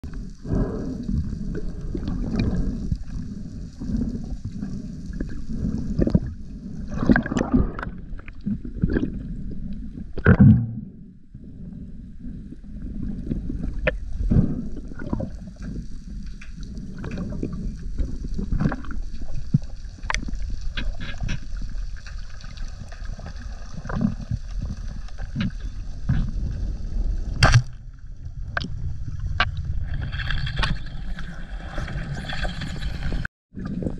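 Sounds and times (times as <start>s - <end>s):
low rumble of water and hull: 0.0s - 33.9s.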